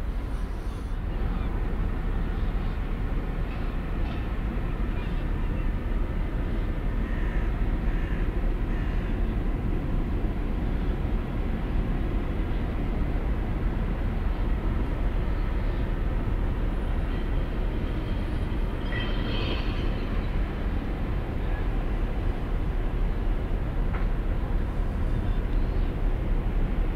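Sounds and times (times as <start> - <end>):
faint machinery drone: 0.0 - 26.9.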